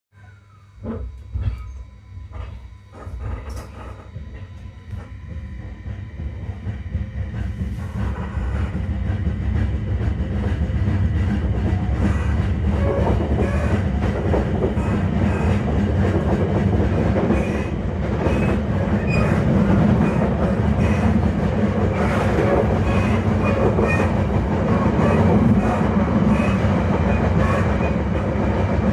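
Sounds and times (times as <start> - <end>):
electric train rumbling: 0.2 - 28.9
quick knocking of train wheels: 3.0 - 28.9.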